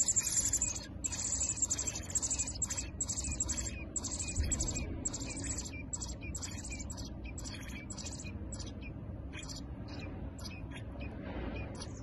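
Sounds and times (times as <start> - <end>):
nestlings chirping: 0.0 - 12.0.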